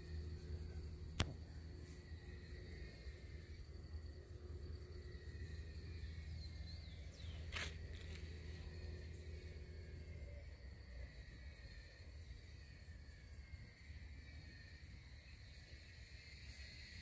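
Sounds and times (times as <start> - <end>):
insect trill: 0.0 - 17.0.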